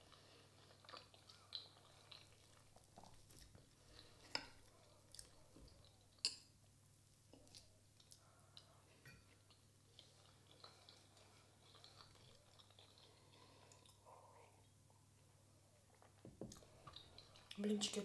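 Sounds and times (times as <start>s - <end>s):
faint chewing: 0.0s - 6.6s, 7.2s - 18.0s.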